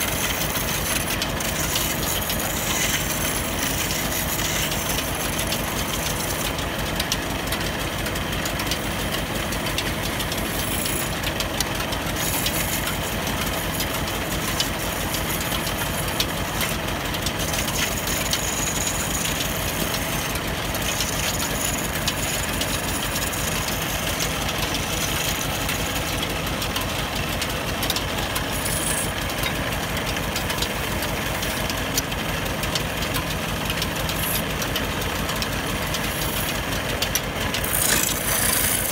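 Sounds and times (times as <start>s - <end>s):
chisel cutting wood: 0.0s - 38.9s
wood lathe rattling: 0.0s - 38.9s.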